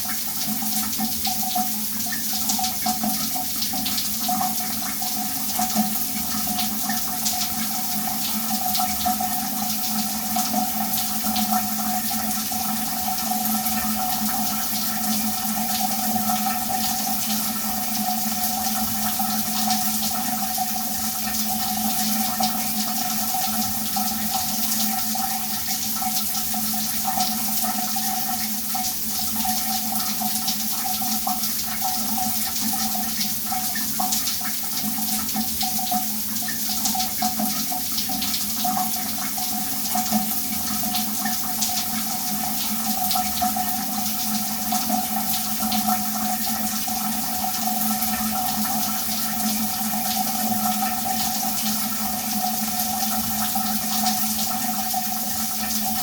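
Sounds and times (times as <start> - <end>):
shower water running: 0.0 - 56.0.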